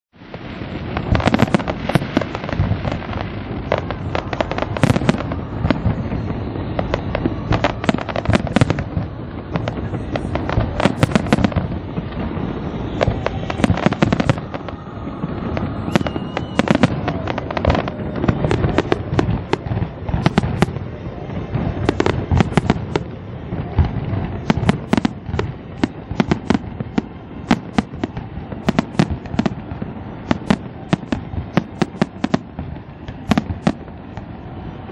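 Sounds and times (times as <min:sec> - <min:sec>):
fireworks bangs and crackles: 0:00.2 - 0:34.9.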